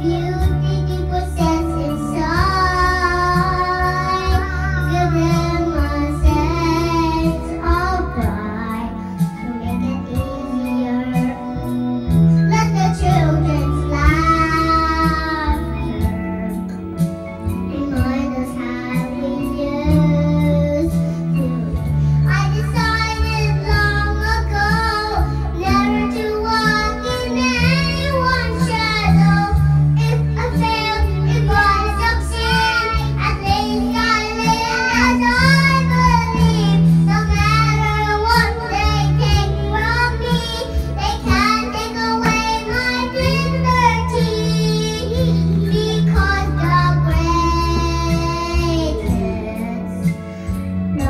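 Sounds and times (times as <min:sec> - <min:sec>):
backing track with bass line: 0:00.0 - 0:51.0
girl singing into microphone: 0:00.0 - 0:51.0.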